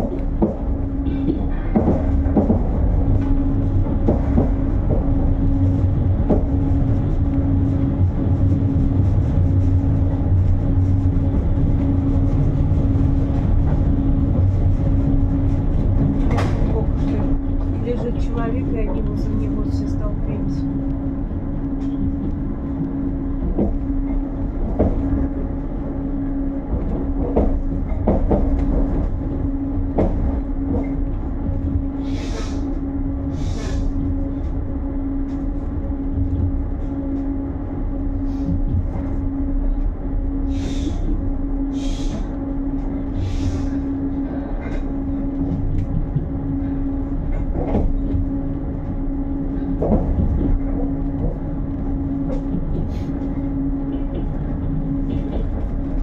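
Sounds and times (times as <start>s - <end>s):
constant hum: 0.0s - 56.0s
train rumble: 0.0s - 56.0s.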